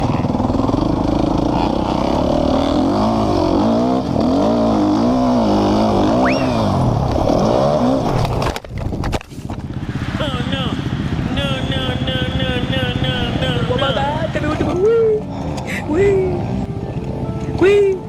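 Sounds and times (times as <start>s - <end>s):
dirt bike engine revving: 0.0s - 8.4s, 9.6s - 16.8s.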